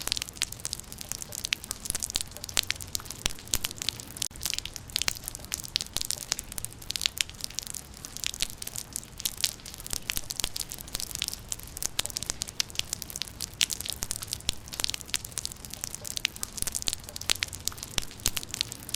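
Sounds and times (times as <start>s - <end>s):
rain drops pattering: 0.0s - 18.9s.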